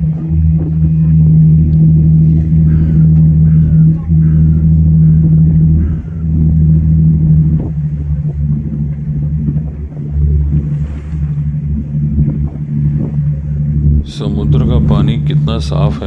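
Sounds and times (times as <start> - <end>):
ferry engine drone: 0.0 - 16.0
wind buffeting microphone: 0.0 - 16.0.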